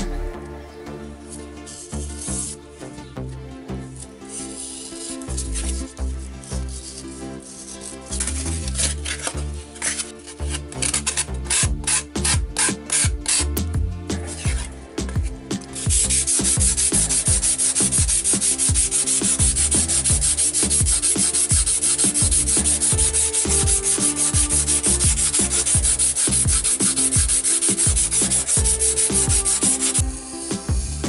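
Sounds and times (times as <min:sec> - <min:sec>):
sanding block rasping on foam: 0:01.6 - 0:02.6, 0:04.3 - 0:31.0.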